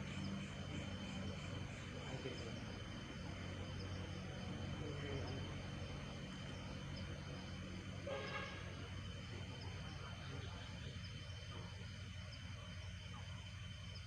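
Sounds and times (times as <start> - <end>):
crickets chirping: 0.0 - 14.0
steady low hum: 0.0 - 14.0.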